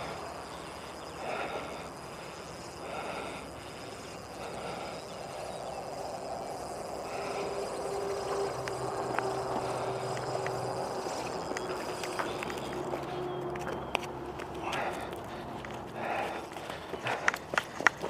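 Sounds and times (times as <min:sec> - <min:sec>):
distant traffic hum: 0:00.0 - 0:18.0
person breathing heavily: 0:00.0 - 0:18.0
steady outdoor noise: 0:00.0 - 0:18.0.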